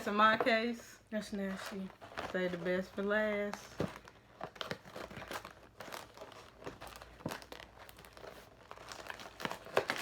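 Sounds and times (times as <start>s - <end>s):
plastic wrapper crinkling: 1.3s - 10.0s.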